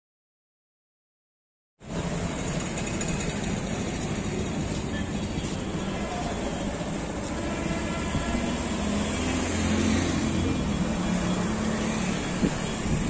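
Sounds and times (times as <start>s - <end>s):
busy road traffic: 1.8s - 13.0s
vehicle engine: 1.8s - 13.0s.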